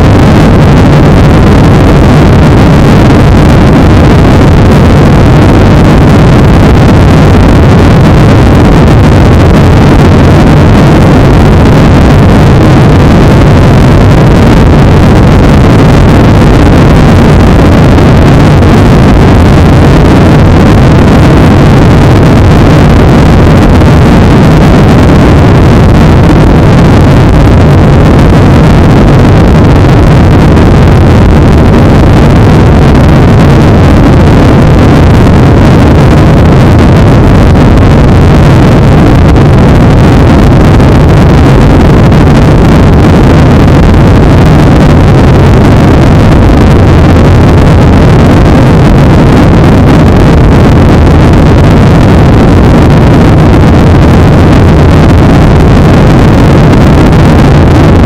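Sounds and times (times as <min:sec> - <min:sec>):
airplane cabin engine drone: 0:00.0 - 0:47.3.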